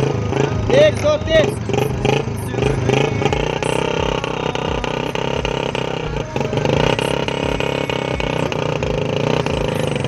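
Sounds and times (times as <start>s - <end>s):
motorcycle engines under load: 0.0s - 10.0s.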